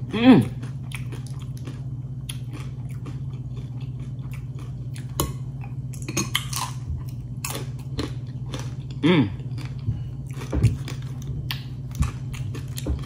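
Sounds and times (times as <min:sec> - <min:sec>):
person crunching chips: 0:00.0 - 0:05.2, 0:06.1 - 0:13.0
steady low hum: 0:00.0 - 0:13.0.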